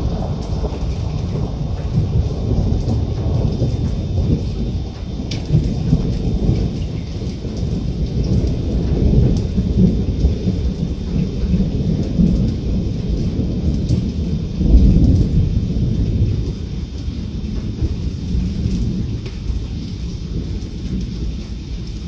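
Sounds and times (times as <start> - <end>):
rain falling: 0.0 - 22.0
thunder rumbling: 0.0 - 22.0.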